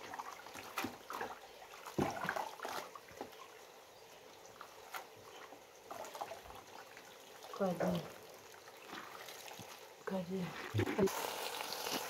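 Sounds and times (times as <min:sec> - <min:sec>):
water splashing in plastic basin: 0:00.0 - 0:03.5, 0:04.6 - 0:12.0.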